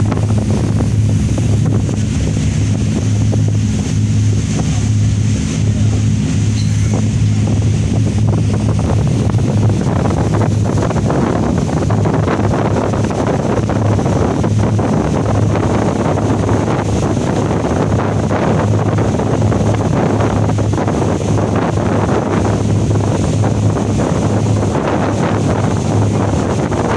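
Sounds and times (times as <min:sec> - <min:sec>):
boat engine running: 0:00.0 - 0:26.9
water rushing: 0:00.0 - 0:26.9
wind buffeting microphone: 0:00.0 - 0:26.9.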